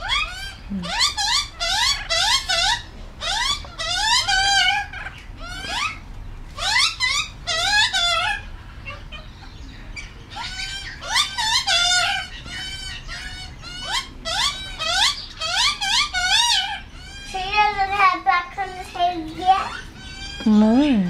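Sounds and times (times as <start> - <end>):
young magpie begging calls: 0.0 - 21.0.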